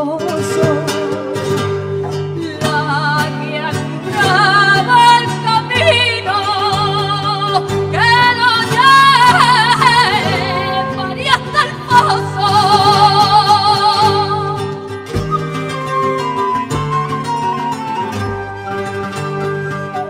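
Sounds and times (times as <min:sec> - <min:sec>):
woman singing with vibrato: 0:00.0 - 0:17.5
guitar accompaniment: 0:00.0 - 0:20.0.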